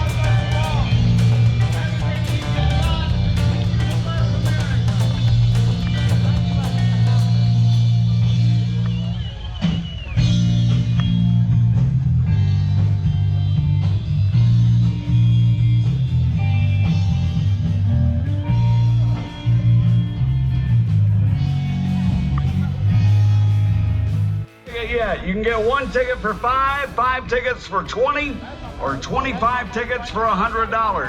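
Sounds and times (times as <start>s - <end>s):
rock music with electric guitar: 0.0s - 31.0s.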